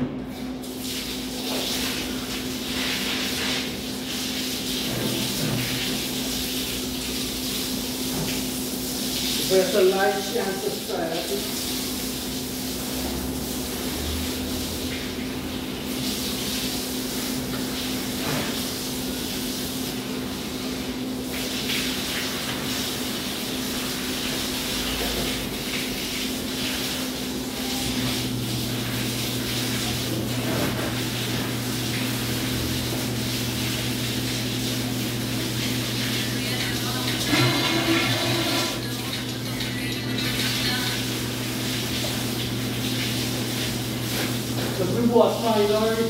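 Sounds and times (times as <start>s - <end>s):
watery hiss of floor washing: 0.3s - 46.0s.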